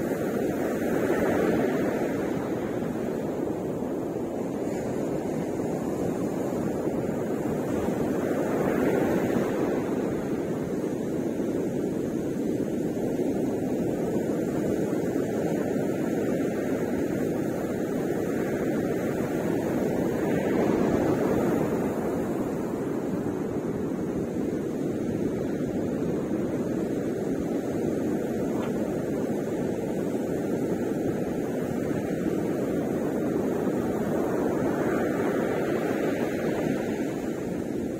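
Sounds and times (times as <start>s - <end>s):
ocean waves breaking: 0.0s - 37.9s.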